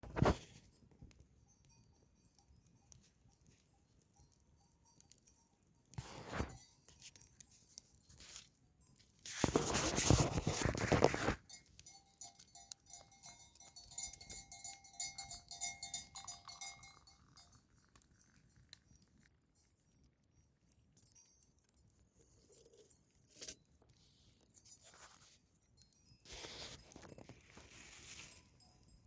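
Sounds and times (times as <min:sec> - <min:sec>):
sheep bells clinking: 0:00.5 - 0:09.2, 0:11.1 - 0:20.0, 0:20.6 - 0:23.2, 0:25.6 - 0:29.0.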